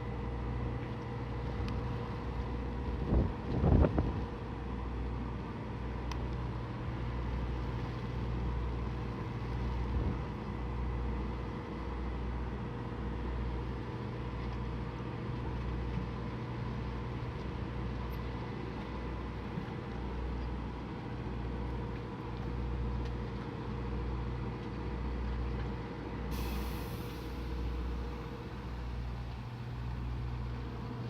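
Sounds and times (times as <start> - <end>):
electric bus whining hum: 0.0 - 31.0.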